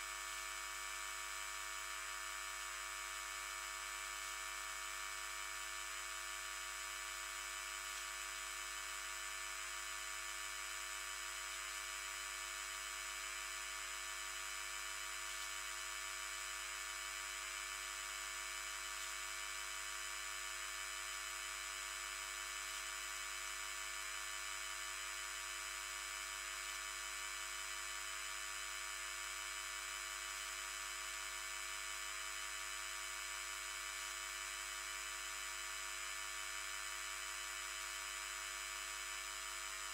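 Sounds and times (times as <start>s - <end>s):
steady high-pitched mains buzz: 0.0s - 39.9s.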